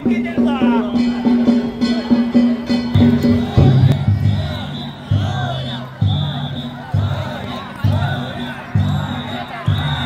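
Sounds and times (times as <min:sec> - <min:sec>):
taiko drum rhythm: 0:00.0 - 0:10.0.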